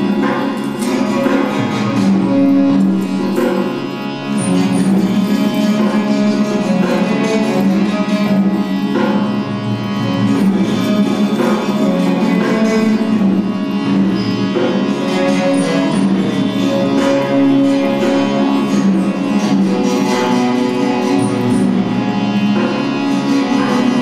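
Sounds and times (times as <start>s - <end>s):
plucked string melody: 0.0s - 24.0s
steady drone: 0.0s - 24.0s.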